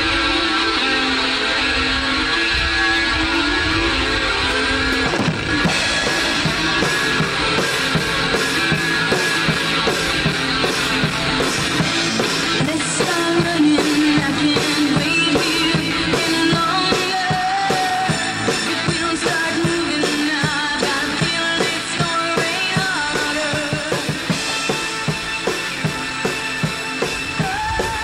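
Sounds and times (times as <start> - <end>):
rock music with drums: 0.0 - 28.0.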